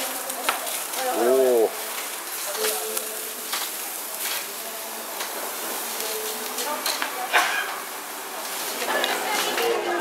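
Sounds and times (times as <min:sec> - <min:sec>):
firework hissing and crackling: 0:00.0 - 0:10.0.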